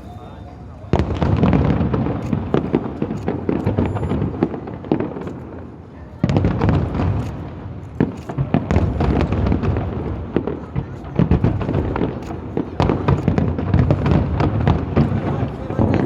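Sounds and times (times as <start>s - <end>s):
loud firework burst: 0.0s - 16.0s
fireworks crackling pops: 0.8s - 16.0s.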